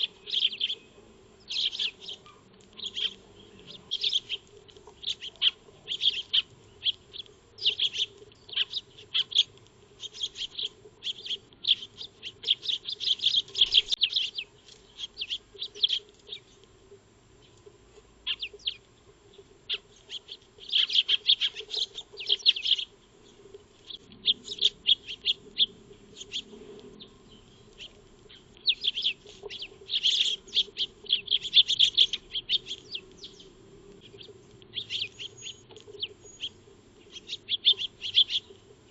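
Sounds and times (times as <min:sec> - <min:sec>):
sparrows chirping: 0:00.0 - 0:16.7, 0:17.3 - 0:38.9
faint steady hum: 0:00.0 - 0:38.9.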